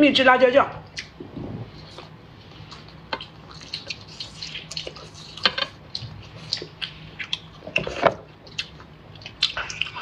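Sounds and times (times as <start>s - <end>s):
wet chewing and lip-smacking: 0.9s - 1.2s, 1.8s - 10.0s.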